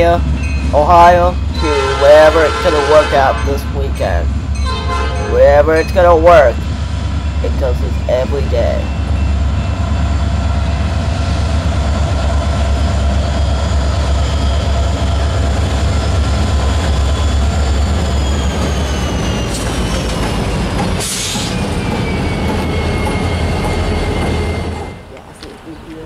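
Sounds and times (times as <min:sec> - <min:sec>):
locomotive whine: 0:00.0 - 0:25.5
diesel locomotive engine rumble: 0:00.0 - 0:26.0.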